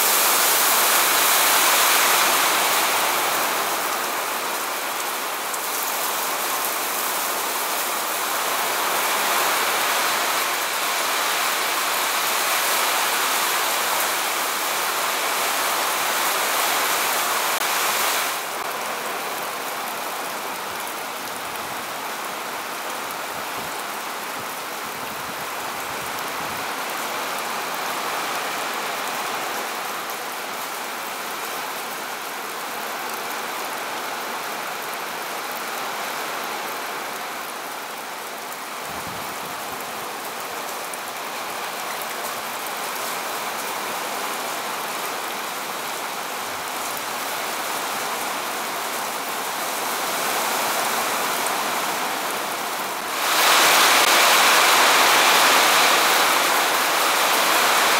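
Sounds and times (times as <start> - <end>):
heavy rain on grass and trees: 0.0 - 57.9.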